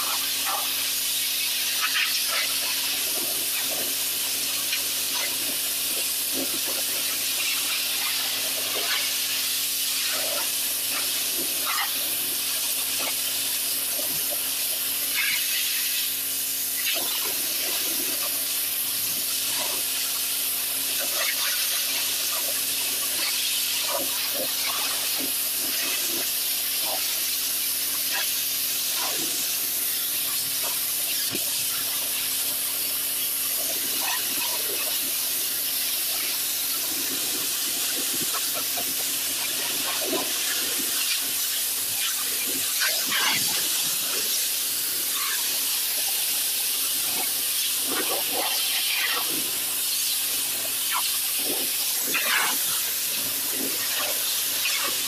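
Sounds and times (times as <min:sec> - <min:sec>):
pressure washer jet hissing: 0:00.0 - 0:55.0
spray splattering on concrete: 0:00.0 - 0:55.0.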